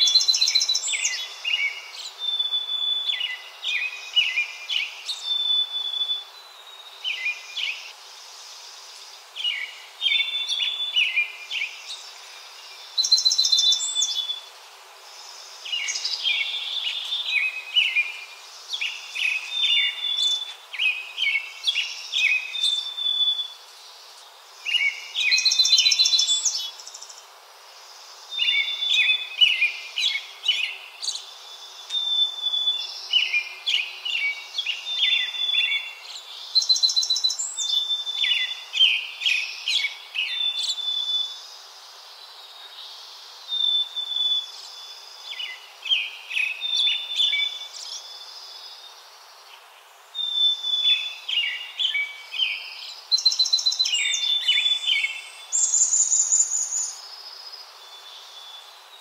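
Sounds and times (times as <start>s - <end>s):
faint background hiss: 0.0s - 59.0s
songbird singing: 0.0s - 59.0s.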